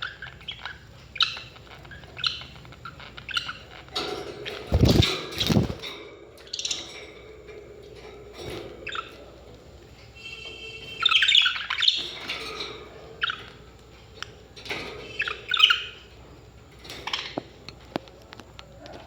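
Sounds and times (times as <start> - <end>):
parrots squawking and chirping: 0.0 - 17.8.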